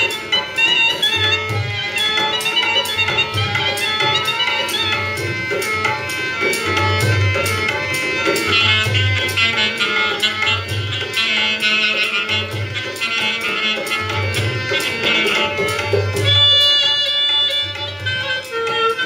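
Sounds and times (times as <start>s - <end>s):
folk melody: 0.0s - 19.0s
hand drum beat: 0.0s - 19.0s.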